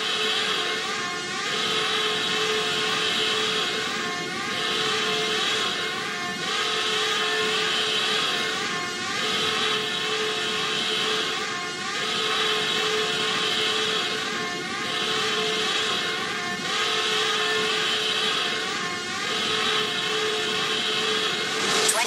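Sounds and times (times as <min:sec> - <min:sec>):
droning machine-like hum: 0:00.0 - 0:22.0.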